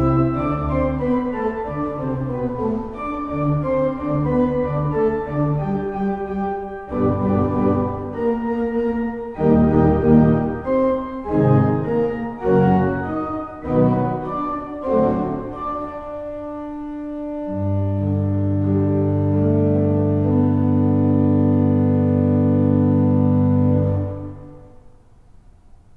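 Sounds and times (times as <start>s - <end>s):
pipe organ pedal notes: 0.0s - 24.9s.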